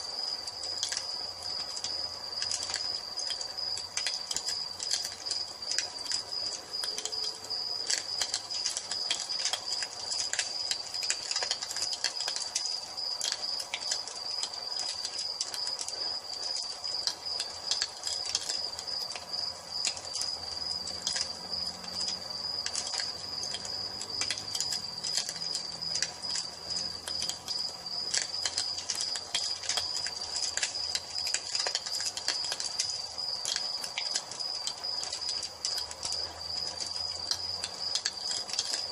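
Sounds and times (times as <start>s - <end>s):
crickets trilling: 0.0s - 38.9s
wood fire crackling and popping: 0.0s - 38.9s.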